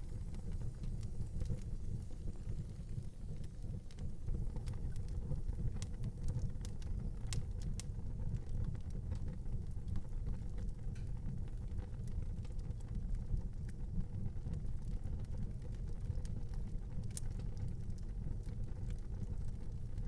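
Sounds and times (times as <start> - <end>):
wood fire burning: 0.0 - 20.0.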